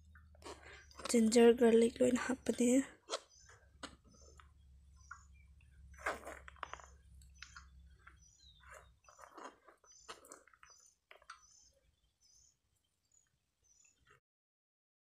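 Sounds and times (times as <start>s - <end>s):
small birds chirping: 0.0s - 14.2s.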